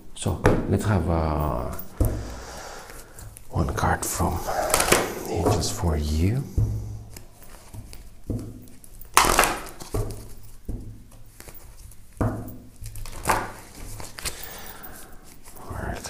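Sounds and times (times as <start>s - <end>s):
tarot cards shuffling: 1.4s - 16.0s.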